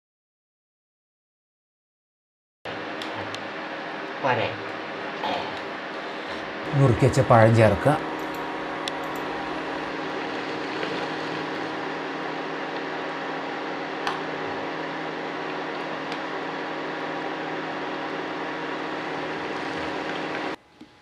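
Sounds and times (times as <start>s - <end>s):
induction cooktop hum and fan: 2.7s - 21.0s.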